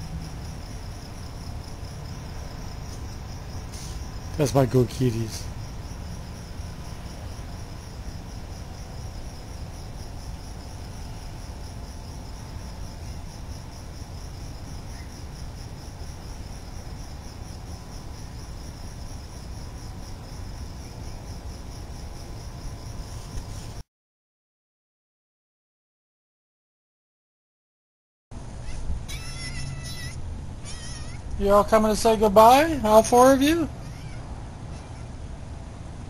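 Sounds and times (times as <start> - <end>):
crickets chirping: 0.0 - 23.8, 28.4 - 36.0.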